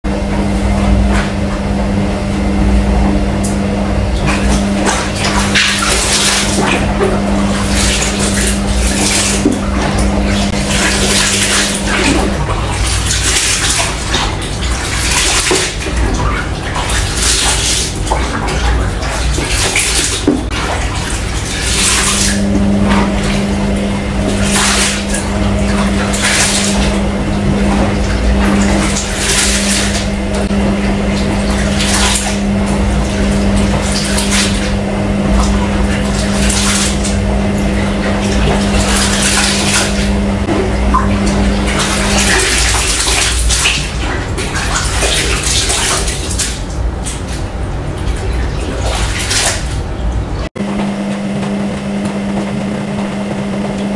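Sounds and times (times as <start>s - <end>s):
steady low hum: 0.0s - 53.9s
water sloshing in plastic tub: 0.0s - 53.9s.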